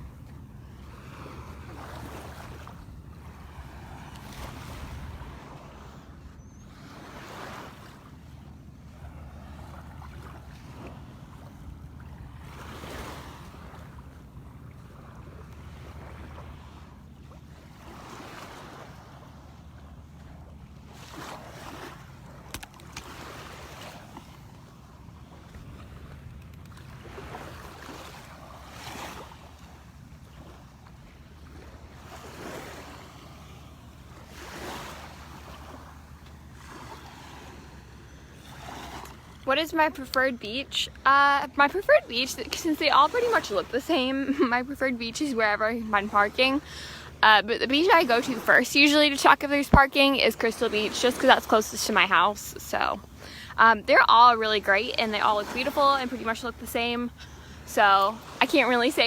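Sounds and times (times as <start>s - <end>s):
small waves washing onto beach: 0.0s - 59.0s
wind rumble on microphone: 0.0s - 59.0s.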